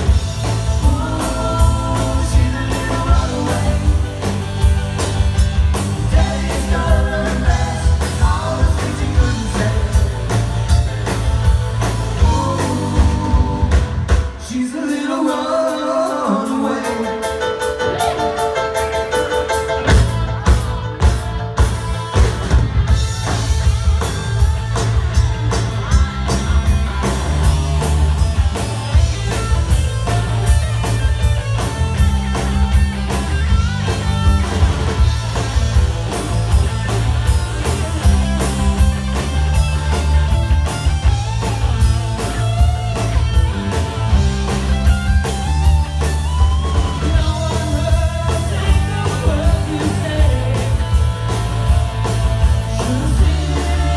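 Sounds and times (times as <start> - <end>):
bass line: 0.0 - 14.4, 19.8 - 53.9
rock band playing live: 0.0 - 53.9.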